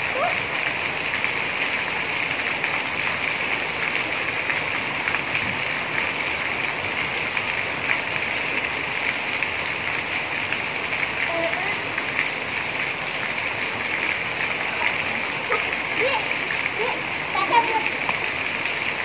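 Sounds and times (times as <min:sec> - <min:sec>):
heavy rain hiss: 0:00.0 - 0:19.0
raindrops pattering on tiles: 0:00.0 - 0:19.0.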